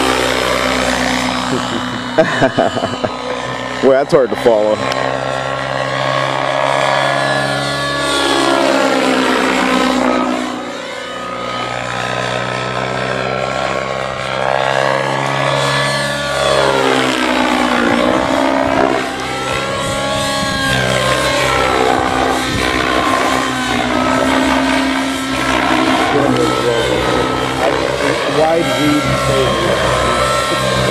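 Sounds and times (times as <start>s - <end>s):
rc helicopter engine and rotors: 0.0s - 30.9s.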